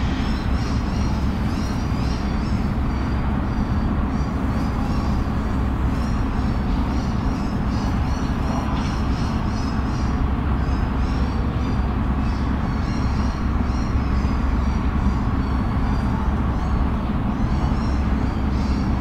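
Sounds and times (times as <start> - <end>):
low rumble of city traffic: 0.0 - 19.0.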